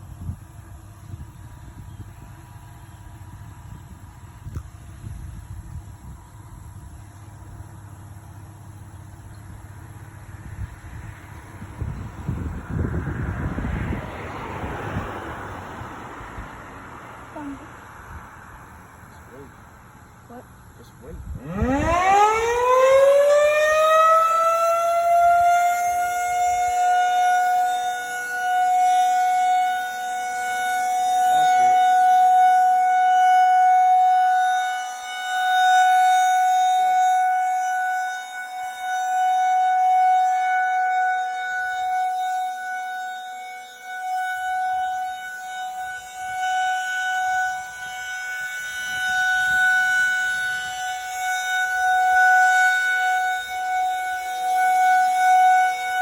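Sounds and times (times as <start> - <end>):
warning siren wailing: 0.0 - 56.0.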